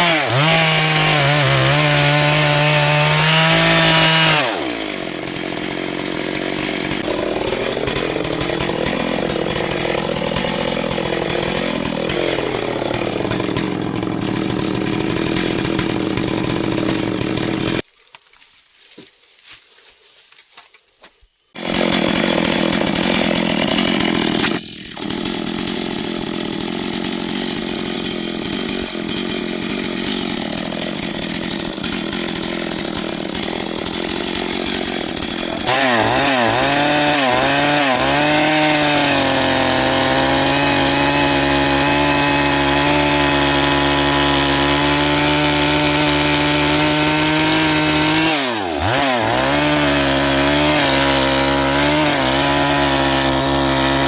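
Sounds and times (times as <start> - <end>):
chainsaw running at high revs: 0.0 - 17.8, 21.6 - 54.0.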